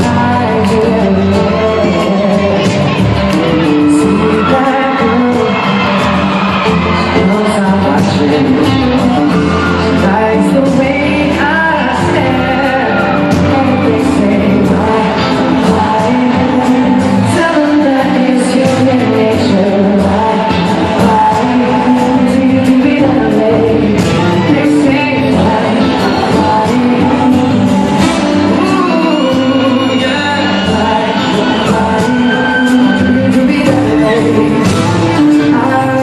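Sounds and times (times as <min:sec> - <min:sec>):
live band playing slow ballad: 0:00.0 - 0:36.0.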